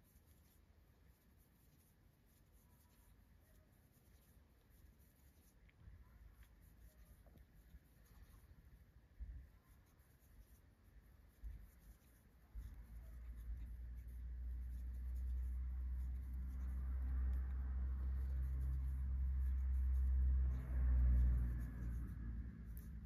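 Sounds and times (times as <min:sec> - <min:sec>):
crochet hook scratching yarn: 0:00.0 - 0:23.0
low steady hum: 0:00.0 - 0:23.0.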